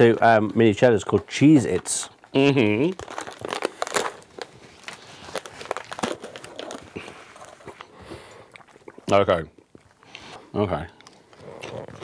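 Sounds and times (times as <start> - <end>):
snack packaging crinkling: 0.0 - 10.3.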